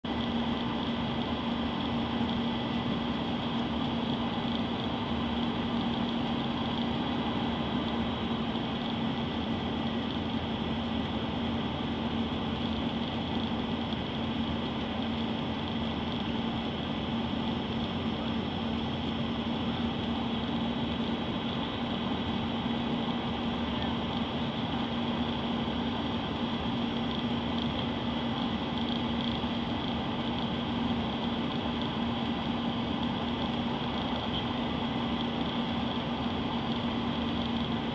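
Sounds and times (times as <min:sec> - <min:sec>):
jet engine drone in cabin: 0:00.0 - 0:37.9.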